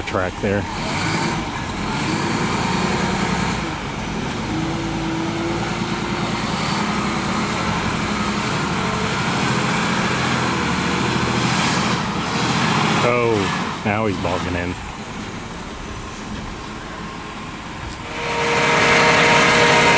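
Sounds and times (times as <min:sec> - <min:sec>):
truck diesel engine running: 0:00.0 - 0:19.9.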